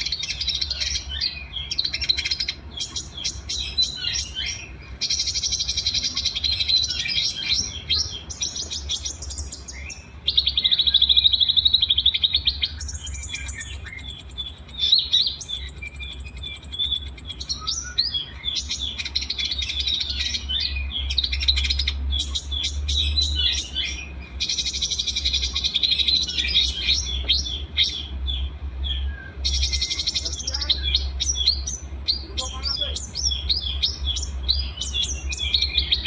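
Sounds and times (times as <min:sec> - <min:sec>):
songbirds chirping and trilling: 0:00.0 - 0:36.0
steady low hum: 0:00.0 - 0:36.0.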